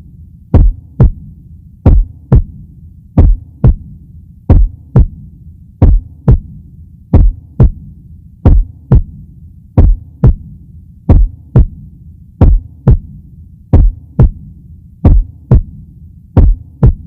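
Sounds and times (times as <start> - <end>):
low hum: 0.0 - 17.0
heartbeat thumps: 0.5 - 2.6, 3.2 - 3.9, 4.5 - 9.2, 9.8 - 15.8, 16.4 - 17.0.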